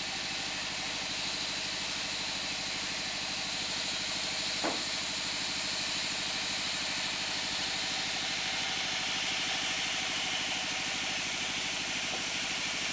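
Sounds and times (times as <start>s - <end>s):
engine-driven band saw running: 0.0s - 12.9s.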